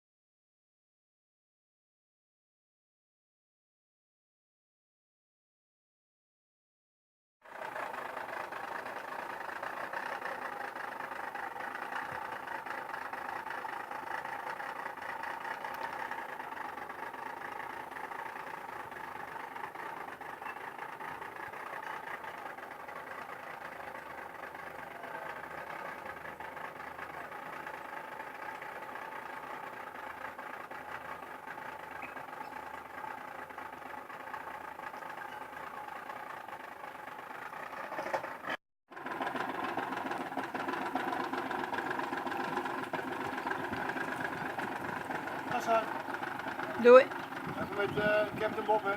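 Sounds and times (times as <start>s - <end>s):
boat engine running: 7.4s - 48.9s.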